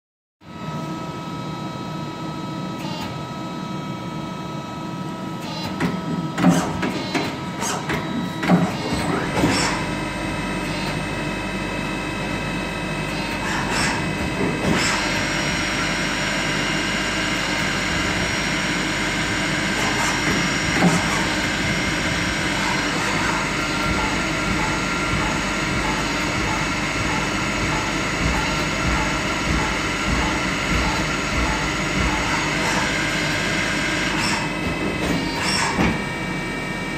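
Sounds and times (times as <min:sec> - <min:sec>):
machine whir: 0:00.6 - 0:36.9.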